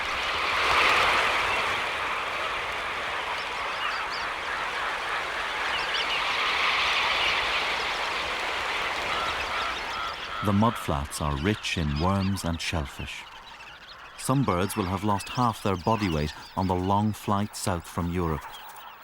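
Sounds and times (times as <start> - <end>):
flock of shorebirds calling: 0.0 - 19.0.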